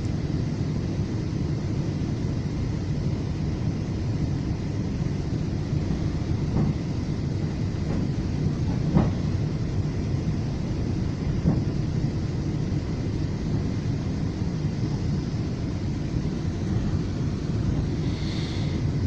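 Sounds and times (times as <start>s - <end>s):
train running low rumble: 0.0s - 19.0s.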